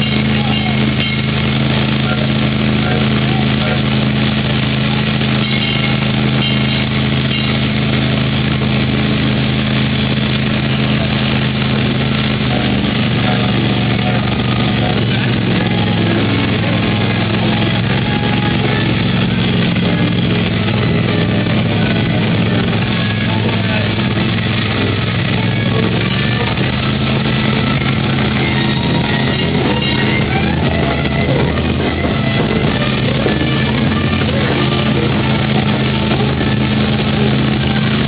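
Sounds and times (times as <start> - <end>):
miniature train engine humming: 0.0 - 38.0.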